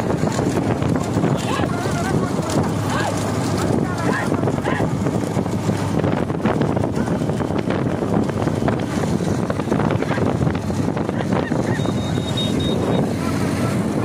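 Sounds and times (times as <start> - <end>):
moving vehicle rush: 0.0 - 14.0
wind buffeting microphone: 0.0 - 14.0.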